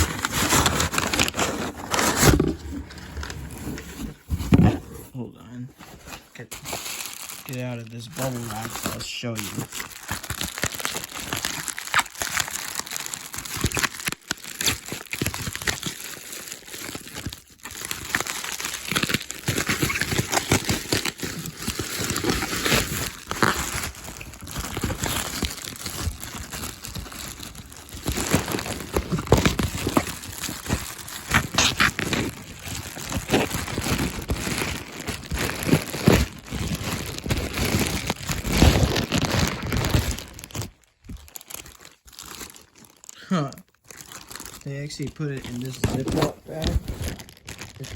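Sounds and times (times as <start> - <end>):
bubble wrap crinkling: 0.0 - 5.2, 5.8 - 47.9.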